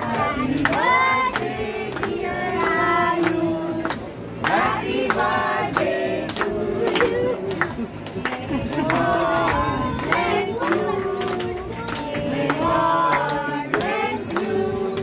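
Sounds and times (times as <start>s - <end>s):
group singing birthday song: 0.0s - 15.0s
people clapping in time: 0.0s - 15.0s.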